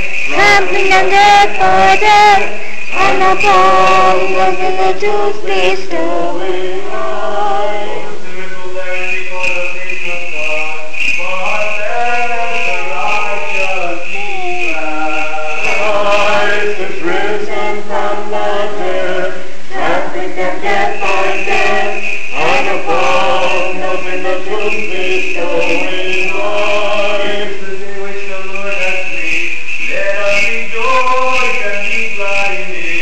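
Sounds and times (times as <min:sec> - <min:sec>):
choir chanting unaccompanied: 0:00.0 - 0:33.0.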